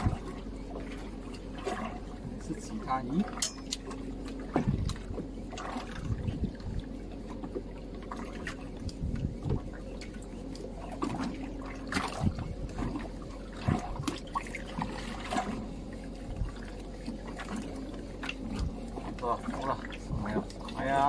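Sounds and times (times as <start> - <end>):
steady low hum: 0.0 - 21.0
water lapping against boat hull: 0.0 - 21.0.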